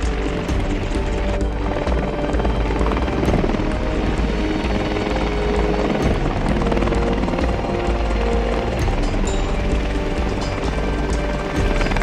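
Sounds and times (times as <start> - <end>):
background music: 0.0 - 12.0
helicopter rotor and engines: 0.0 - 12.0.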